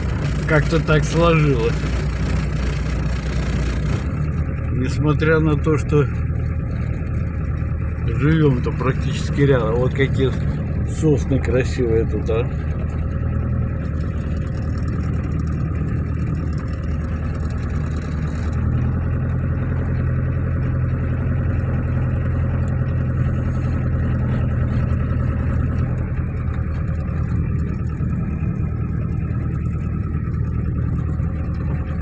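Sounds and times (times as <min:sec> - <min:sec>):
car engine and tyre drone: 0:00.0 - 0:32.0.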